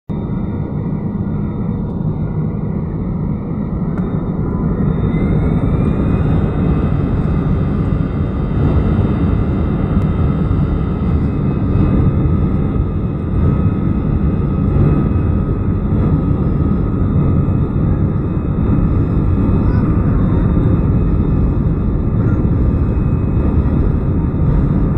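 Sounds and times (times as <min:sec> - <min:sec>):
jet engines rumbling: 0:00.1 - 0:24.9
rising engine whine: 0:00.1 - 0:24.9.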